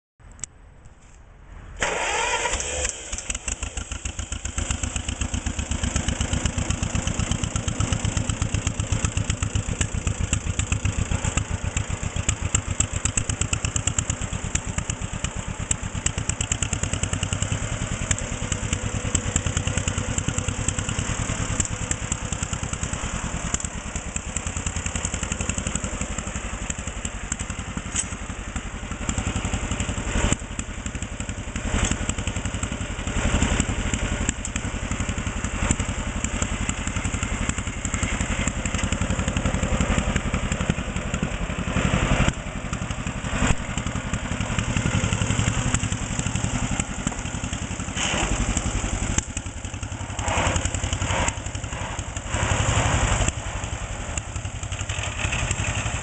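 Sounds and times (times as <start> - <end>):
tractor engine starting and idling: 0.2 - 56.0.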